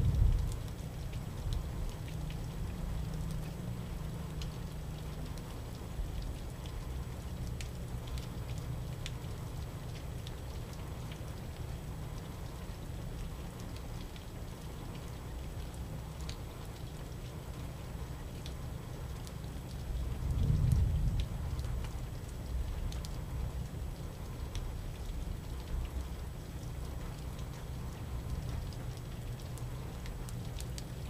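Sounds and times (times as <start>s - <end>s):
raindrops ticking close by: 0.0s - 31.0s
steady low rumble: 0.0s - 31.0s
steady rain falling: 0.0s - 31.0s.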